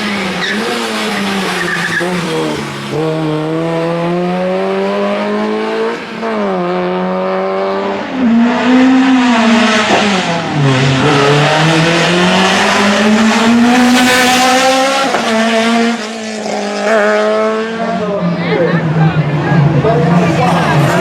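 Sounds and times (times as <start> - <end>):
car engine revving under load: 0.0 - 21.0.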